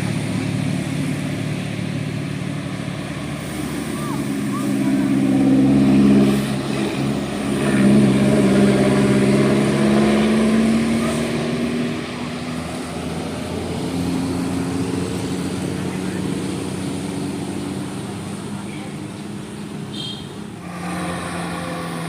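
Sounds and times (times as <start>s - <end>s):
diesel bus engine labouring: 0.0s - 22.0s.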